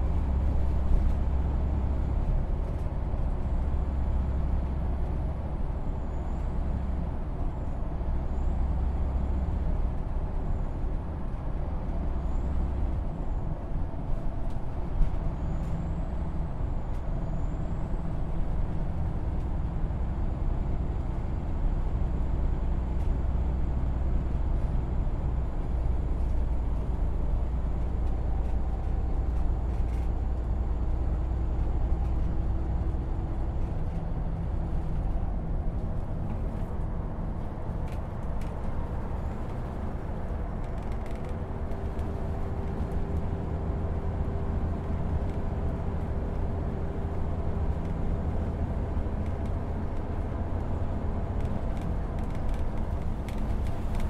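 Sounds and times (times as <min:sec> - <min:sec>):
bus engine rumble with road noise: 0:00.0 - 0:54.0.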